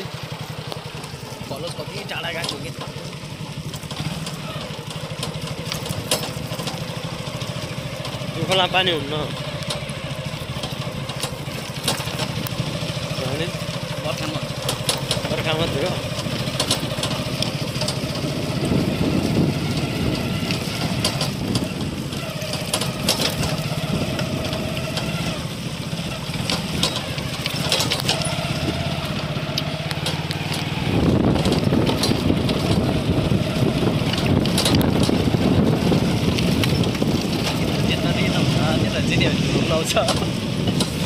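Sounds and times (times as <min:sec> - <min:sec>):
motorcycle engine running: 0:00.0 - 0:41.0
knocks and rattles: 0:00.6 - 0:41.0.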